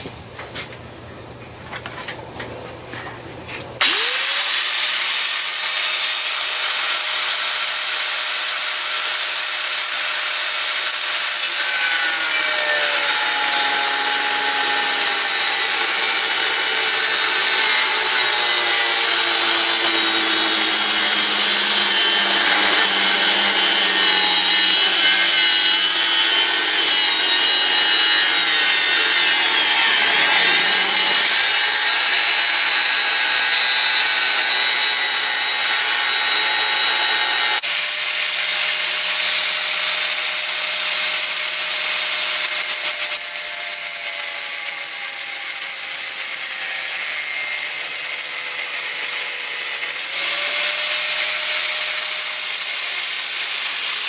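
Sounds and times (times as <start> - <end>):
power tool cutting steel: 3.8 - 54.0.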